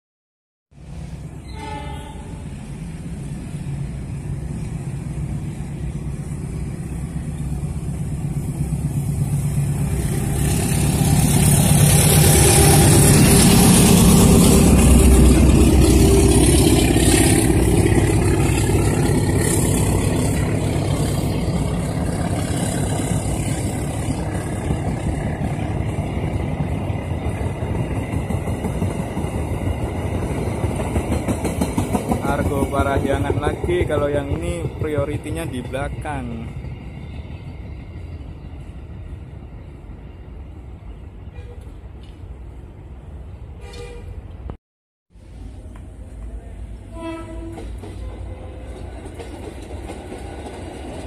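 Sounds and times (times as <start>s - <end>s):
diesel locomotive passing: 0.7s - 44.5s, 45.2s - 51.0s
wheels rumbling on rails: 0.8s - 44.6s, 45.2s - 51.0s.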